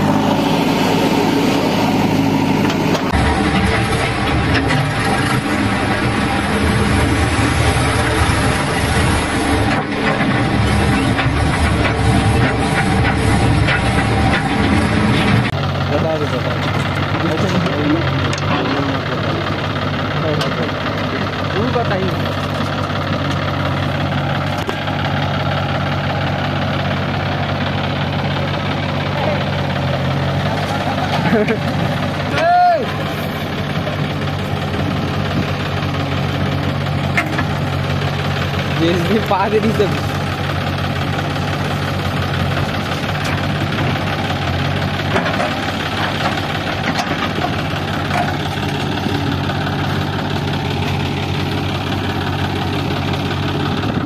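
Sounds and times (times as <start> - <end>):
backhoe loader working: 0.0 - 54.0
diesel engine idling: 0.0 - 54.0.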